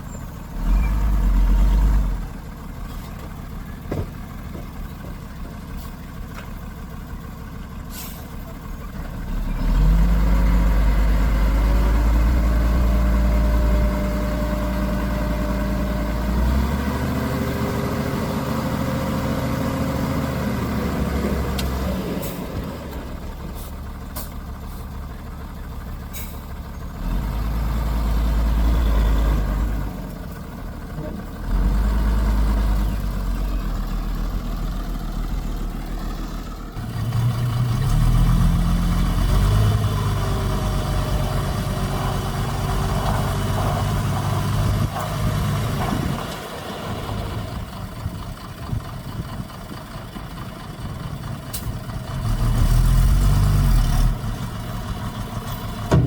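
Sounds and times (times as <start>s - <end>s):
heavy diesel engines working: 0.0s - 56.0s.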